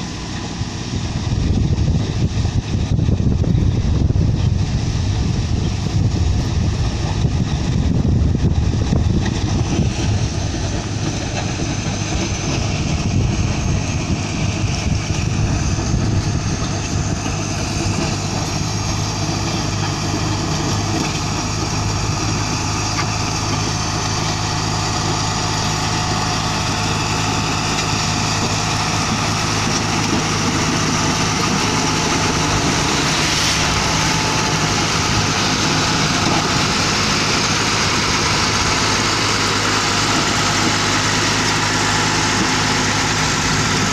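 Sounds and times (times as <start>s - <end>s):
constant noisy rumble: 0.0s - 43.9s
diesel engine hum: 0.0s - 43.9s.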